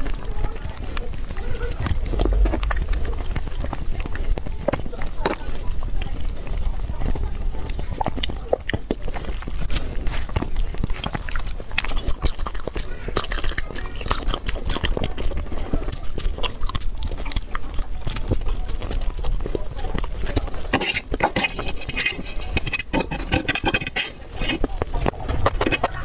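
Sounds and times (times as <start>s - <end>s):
wet chewing and mouth smacking: 0.0s - 26.0s.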